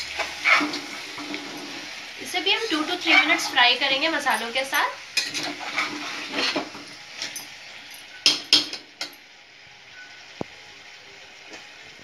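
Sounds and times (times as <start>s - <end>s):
low steady sizzle: 0.0s - 12.0s.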